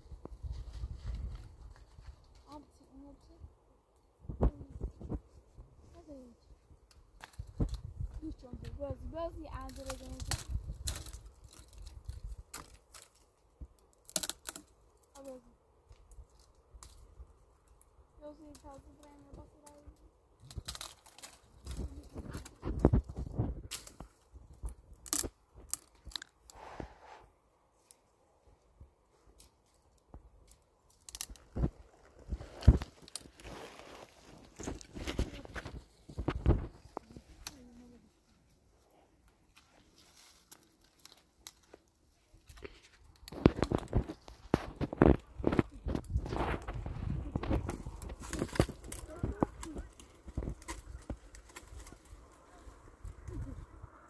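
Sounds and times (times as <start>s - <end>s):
crunching rustling handling noises: 4.0s - 26.7s, 27.7s - 53.7s.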